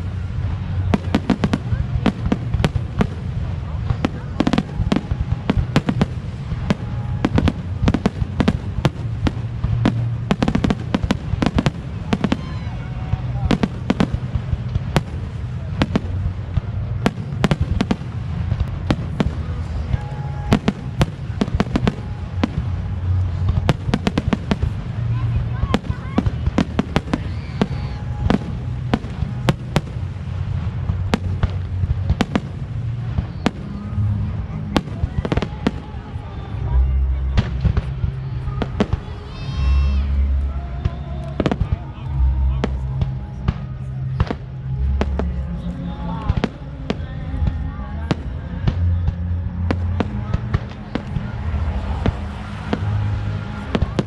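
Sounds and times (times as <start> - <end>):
fireworks bangs and cracks: 0.0 - 54.0
low rumble: 0.0 - 54.0.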